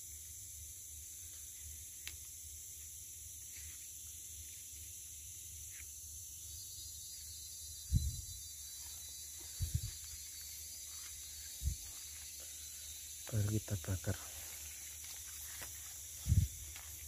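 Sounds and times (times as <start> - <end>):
insect chorus hiss: 0.0 - 17.0.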